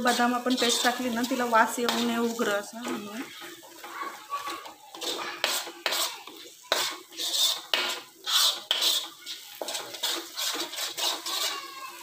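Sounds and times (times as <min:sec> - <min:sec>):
metal spatula scraping metal pan: 0:00.0 - 0:12.0.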